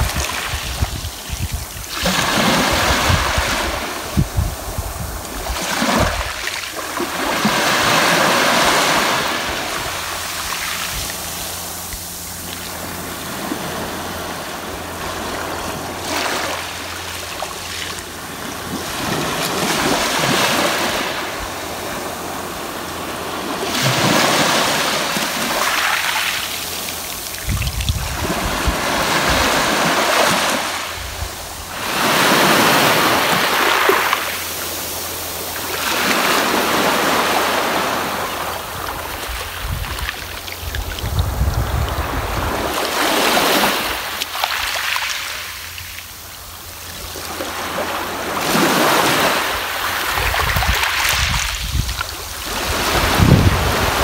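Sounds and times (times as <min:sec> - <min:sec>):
sea waves washing on beach: 0:00.0 - 0:54.0.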